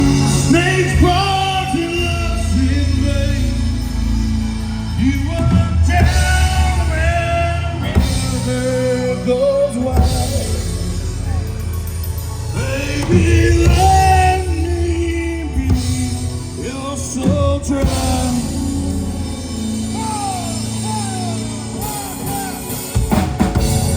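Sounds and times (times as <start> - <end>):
person singing: 0.0 - 11.8, 12.5 - 23.1
rock band playing: 0.0 - 23.9.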